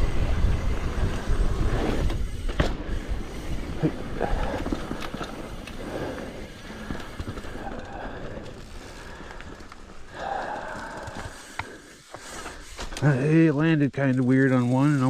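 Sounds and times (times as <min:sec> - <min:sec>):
bike clicks: 0:00.0 - 0:15.0
bike tyres rumbling on dirt: 0:00.0 - 0:15.0.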